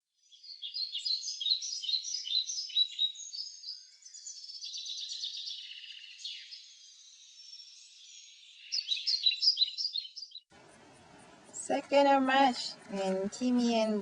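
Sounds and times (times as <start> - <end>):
birds chirping and twittering: 0.1 - 14.0.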